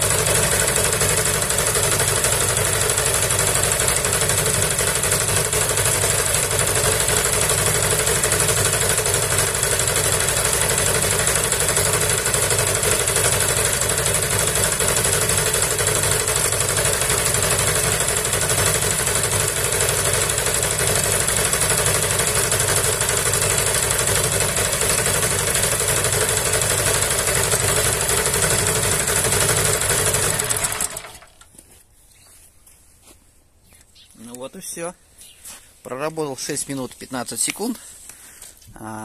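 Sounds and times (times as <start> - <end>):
small petrol engine running: 0.0 - 31.5.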